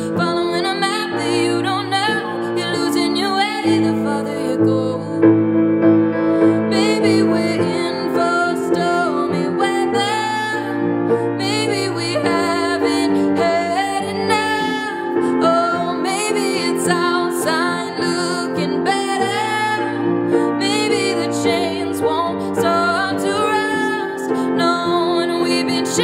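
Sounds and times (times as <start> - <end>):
woman singing: 0.0 - 5.4, 6.4 - 26.0
grand piano chords: 0.0 - 26.0.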